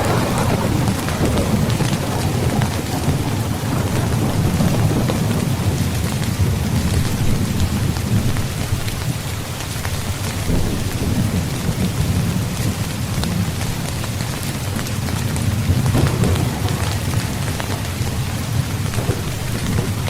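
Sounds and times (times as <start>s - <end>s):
low thunder rumble: 0.0s - 8.9s, 10.0s - 20.0s
steady rain: 0.0s - 20.0s.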